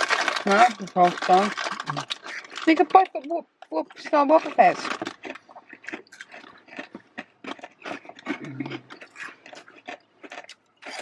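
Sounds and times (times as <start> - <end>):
food crunching while chewed: 0.0 - 11.0.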